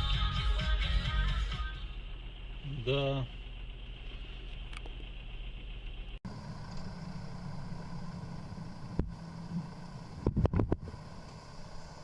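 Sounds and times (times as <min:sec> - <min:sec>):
vehicle running and road noise: 0:00.0 - 0:12.0.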